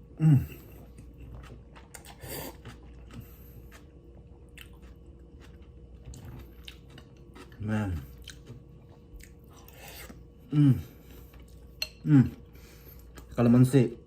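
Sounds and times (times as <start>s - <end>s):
person chewing and slurping: 0.0s - 13.4s.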